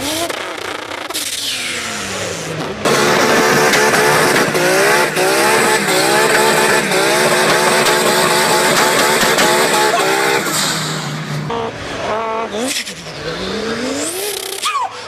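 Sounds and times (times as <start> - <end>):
person imitating racing car: 0.0 - 10.7, 11.4 - 15.0.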